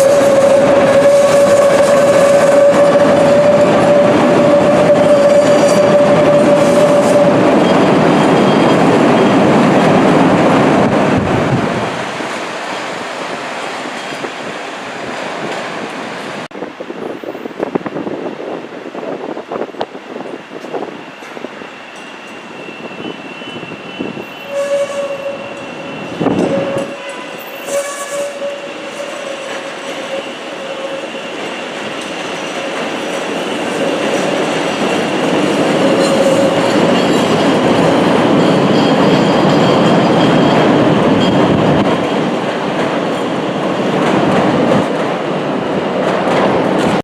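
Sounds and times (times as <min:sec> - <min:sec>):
train rumbling past on tracks: 0:00.0 - 0:47.0.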